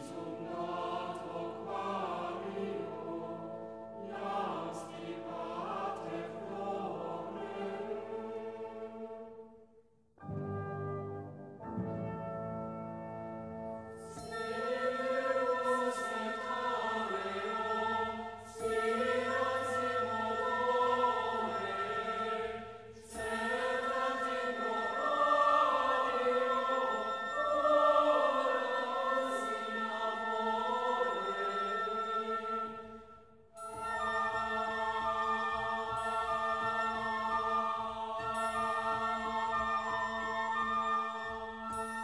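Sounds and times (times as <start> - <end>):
choir singing: 0.0 - 9.6, 14.1 - 42.0.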